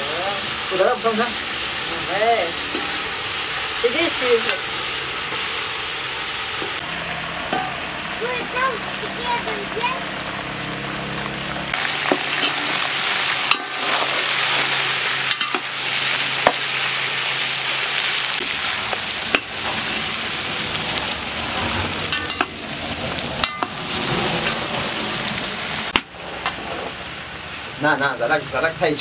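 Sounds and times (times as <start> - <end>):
meat sizzling in pot: 0.0 - 29.0.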